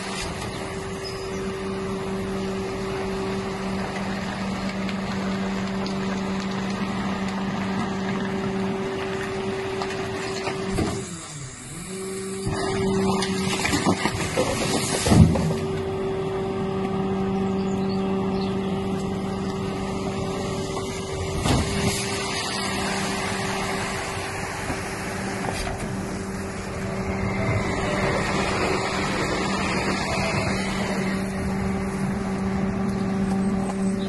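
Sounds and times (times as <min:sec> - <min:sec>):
garbage truck engine and hydraulics hum: 0:00.0 - 0:34.0.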